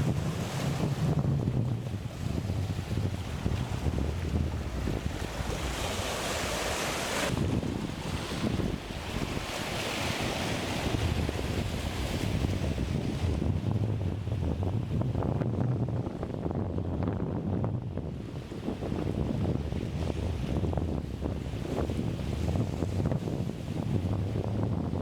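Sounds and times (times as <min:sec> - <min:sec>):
choppy sea waves: 0:00.0 - 0:25.0
wind buffeting microphone: 0:00.0 - 0:25.0.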